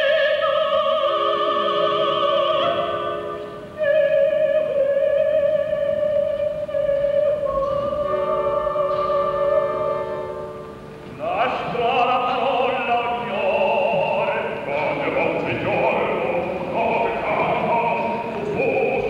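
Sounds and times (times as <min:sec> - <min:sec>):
choir singing: 0:00.0 - 0:19.0
orchestra: 0:00.0 - 0:19.0
woman singing opera: 0:00.0 - 0:19.0.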